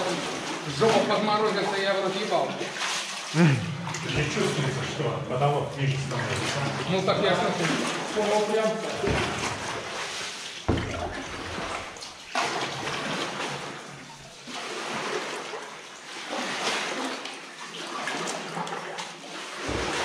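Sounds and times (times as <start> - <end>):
oars splashing: 0.0 - 20.0
water sloshing: 0.0 - 20.0.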